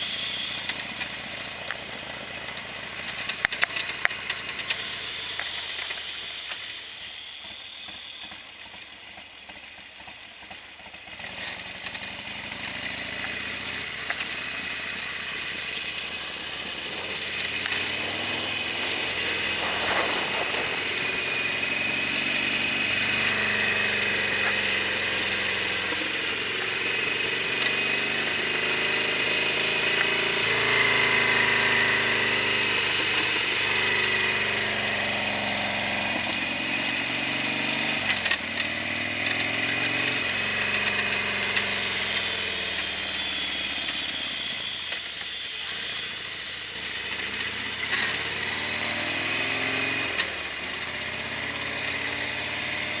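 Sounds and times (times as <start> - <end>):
motorcycle engine running: 0.0 - 53.0
road and wind noise: 0.0 - 53.0.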